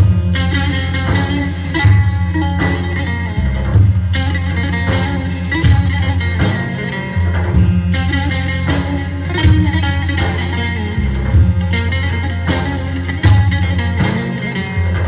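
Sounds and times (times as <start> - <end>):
plucked-string melody: 0.0 - 15.0
sustained bass notes: 0.0 - 15.0.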